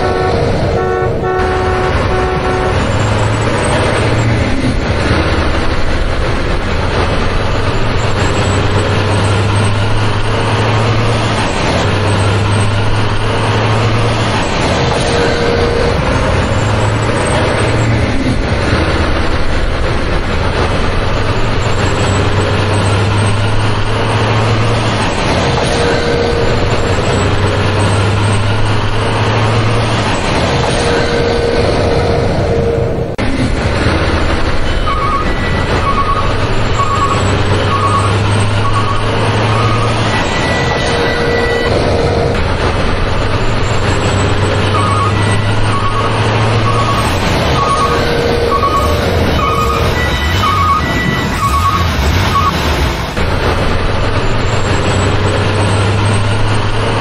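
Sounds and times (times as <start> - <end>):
truck engine rumble: 0.0 - 57.0.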